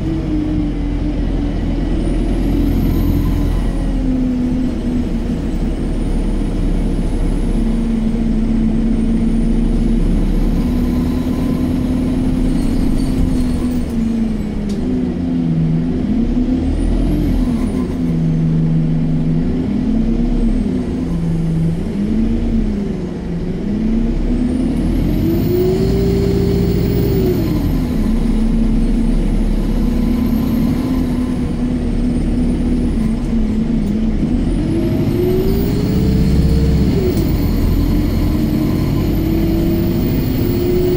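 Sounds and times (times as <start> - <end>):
bus engine accelerating and slowing: 0.0 - 40.9.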